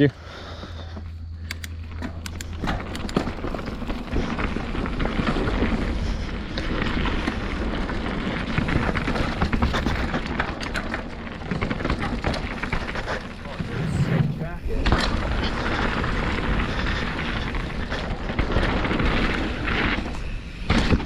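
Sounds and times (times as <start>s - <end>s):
steady low rumble: 0.0s - 20.7s
bike tyres on dirt and rocks: 0.0s - 21.0s
bike rattling and clicking: 0.5s - 21.0s.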